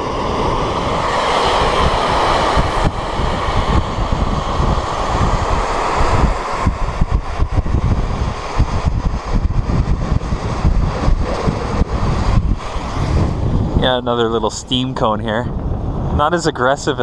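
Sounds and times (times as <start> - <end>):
steam vent hissing: 0.0 - 15.5
wind buffeting microphone: 0.0 - 17.0.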